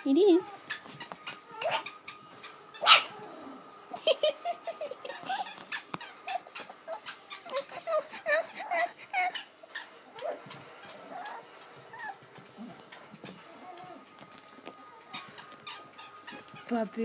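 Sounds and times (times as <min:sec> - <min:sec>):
puppies yipping and barking: 0:00.2 - 0:16.8.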